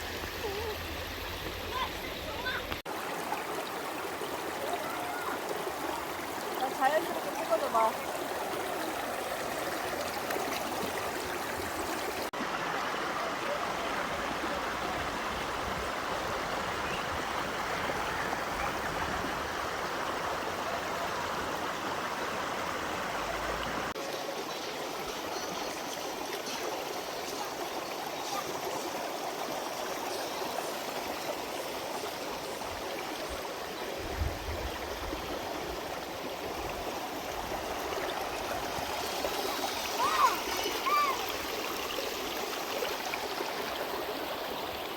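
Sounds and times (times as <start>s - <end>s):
stream water flowing: 0.0s - 44.9s.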